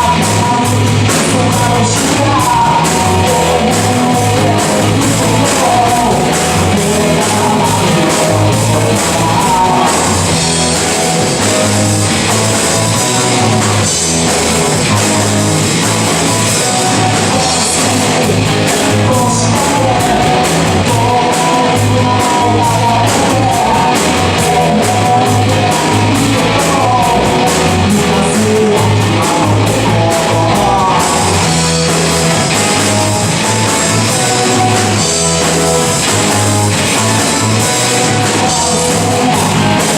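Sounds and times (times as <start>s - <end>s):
drum kit: 0.0s - 39.9s
electric guitar: 0.0s - 39.9s
person singing: 0.0s - 39.9s.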